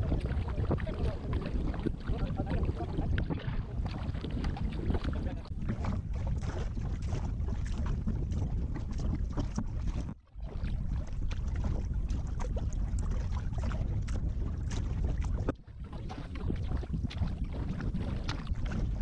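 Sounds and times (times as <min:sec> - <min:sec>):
paddle splashing in water: 0:00.0 - 0:19.0
wind noise on microphone: 0:00.0 - 0:19.0.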